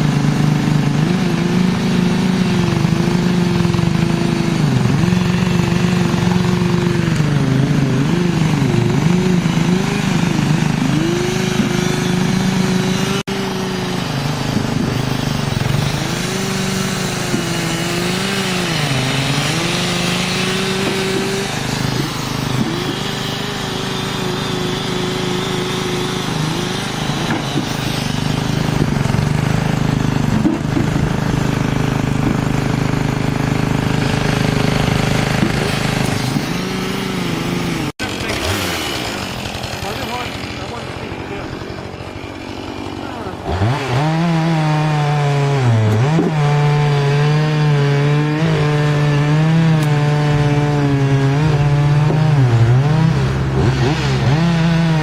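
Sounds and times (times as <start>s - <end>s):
engine running at high revs: 0.0s - 55.0s.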